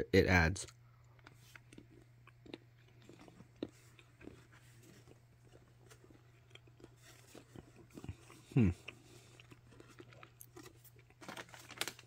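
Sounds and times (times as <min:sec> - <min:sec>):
chewing chocolate: 0:00.6 - 0:11.9
small crunches: 0:01.0 - 0:12.0.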